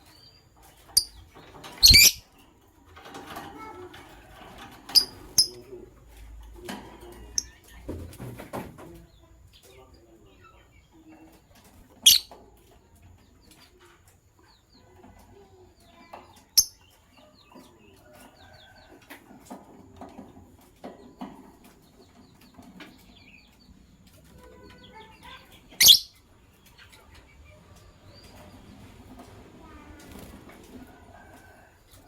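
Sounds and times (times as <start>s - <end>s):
lovebirds chirping and chattering: 0.0s - 32.0s.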